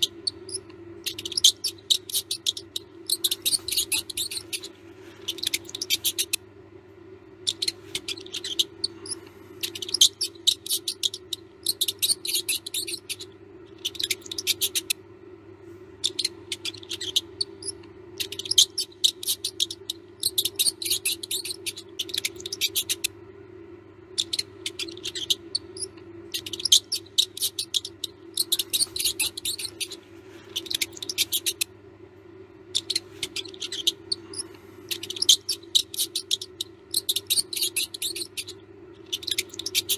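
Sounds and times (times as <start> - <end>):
mouse squeaking: 0.0 - 6.5, 7.3 - 15.0, 16.0 - 23.2, 24.1 - 31.8, 32.6 - 39.9
low hum: 0.0 - 39.9.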